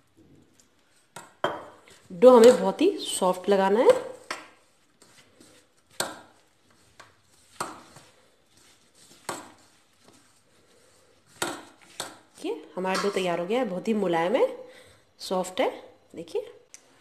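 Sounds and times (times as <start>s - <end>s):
hand mixing dough: 0.0s - 16.0s.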